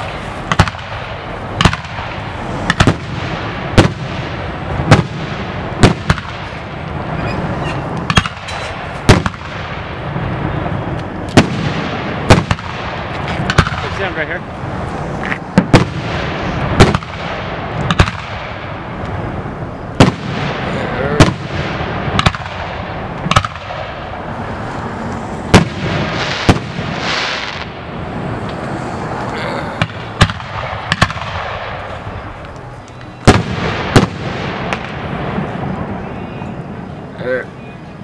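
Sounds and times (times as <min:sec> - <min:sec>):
fireworks bangs: 0:00.0 - 0:37.4
fireworks crackling: 0:00.0 - 0:37.5
fireworks rumble: 0:00.0 - 0:38.0.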